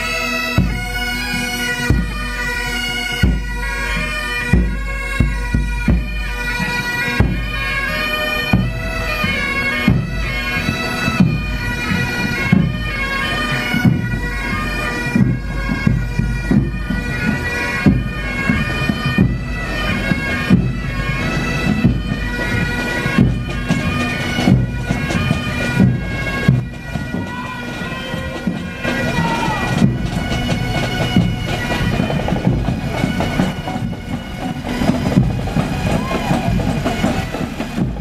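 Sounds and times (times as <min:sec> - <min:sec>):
bagpipes playing a tune: 0:00.0 - 0:38.0
snare drum marching beat: 0:00.6 - 0:07.8, 0:08.4 - 0:38.0.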